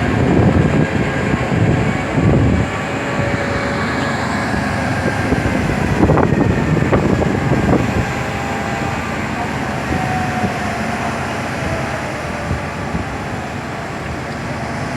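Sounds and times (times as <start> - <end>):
vehicles rumbling on street: 0.0 - 14.9.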